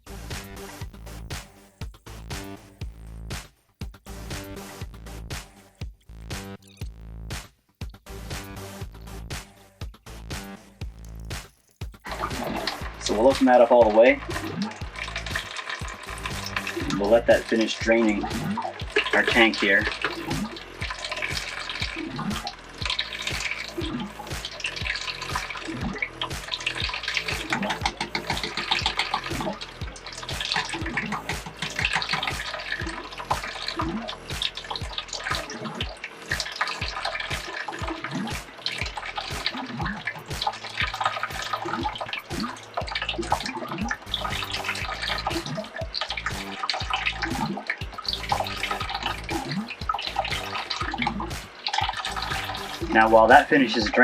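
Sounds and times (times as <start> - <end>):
water pouring into a bucket: 0.0 - 1.4, 11.0 - 54.0.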